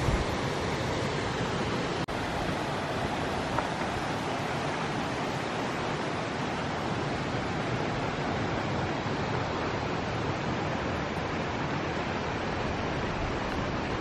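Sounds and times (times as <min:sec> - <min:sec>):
water rushing over a weir: 0:00.0 - 0:14.0.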